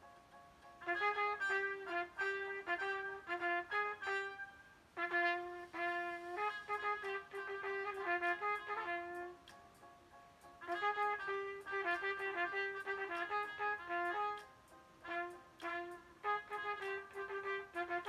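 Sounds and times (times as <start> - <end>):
solo trumpet melody: 0.8 - 9.6, 10.6 - 18.0.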